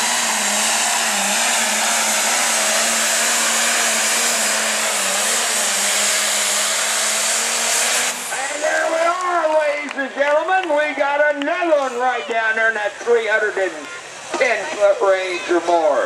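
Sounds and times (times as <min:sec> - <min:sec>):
diesel engine roaring at full throttle: 0:00.0 - 0:16.0
high turbo whine: 0:00.0 - 0:16.0.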